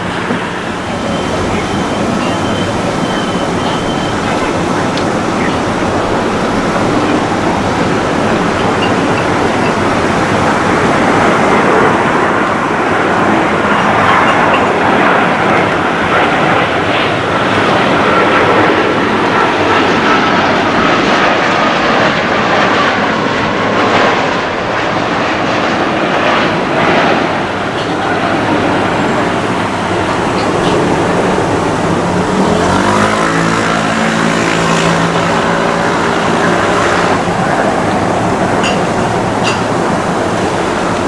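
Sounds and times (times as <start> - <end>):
faint jet whine: 0.0 - 41.0
jet engines rushing: 0.0 - 41.0.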